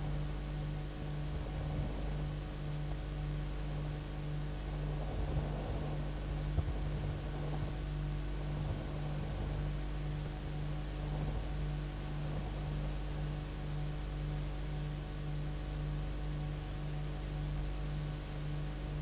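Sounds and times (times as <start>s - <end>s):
constant hiss: 0.0s - 19.0s
electrical mains hum: 0.0s - 19.0s.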